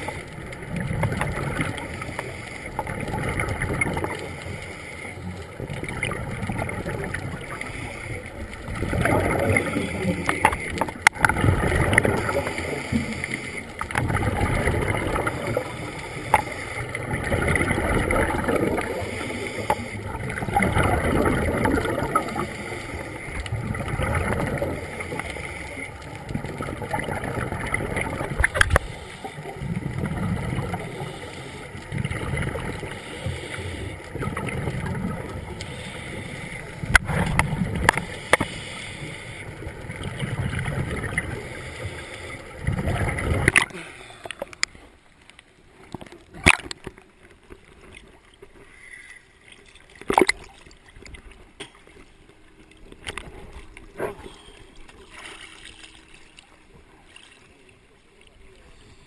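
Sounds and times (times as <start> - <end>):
underwater bubbles rushing: 0.0 - 48.6, 49.4 - 58.9.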